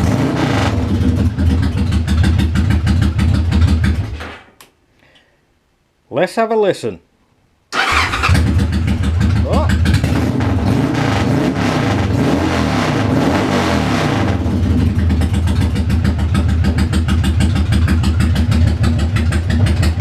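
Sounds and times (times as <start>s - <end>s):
motorcycle engine revving and idling: 0.0s - 4.2s, 7.8s - 20.0s.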